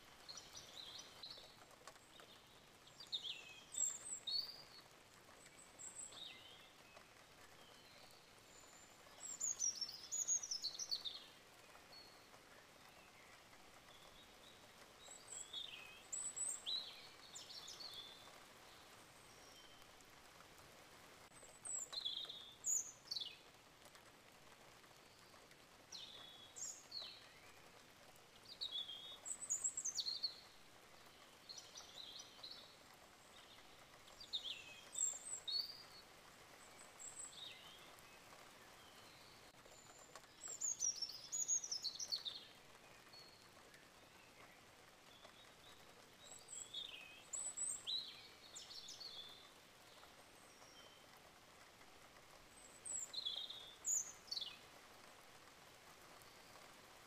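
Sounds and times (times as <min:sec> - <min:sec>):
faint steady hiss: 0:00.0 - 0:57.0
small birds chirping: 0:00.0 - 0:57.0.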